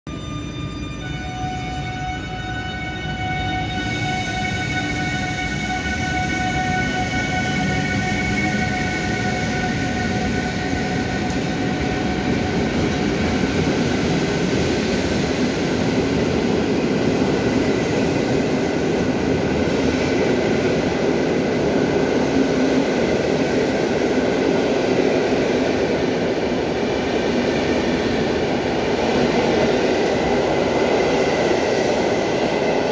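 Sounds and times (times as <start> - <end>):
electric locomotive whining: 0.1 - 32.9
train wheels rumbling on rails: 3.6 - 32.9.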